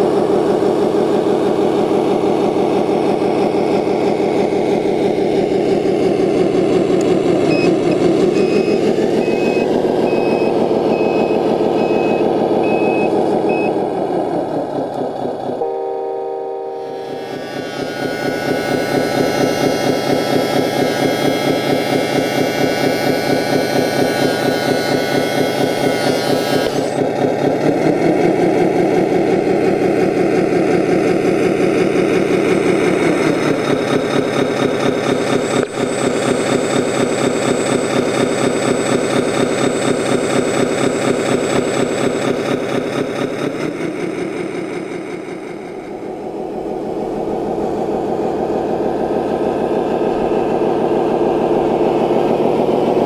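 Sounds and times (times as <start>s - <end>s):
simulated diesel engine revving: 0.0s - 53.0s.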